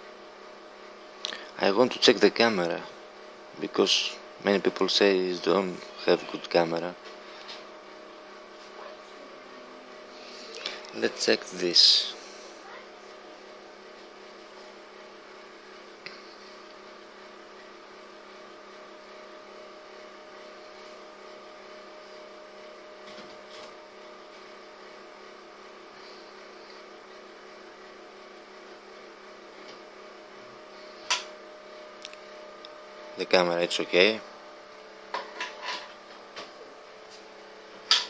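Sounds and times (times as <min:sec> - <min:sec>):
background hum: 0:00.0 - 0:38.0.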